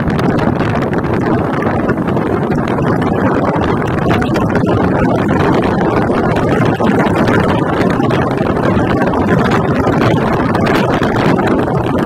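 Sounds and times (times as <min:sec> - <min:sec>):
speedboat motor running: 0:00.0 - 0:12.0.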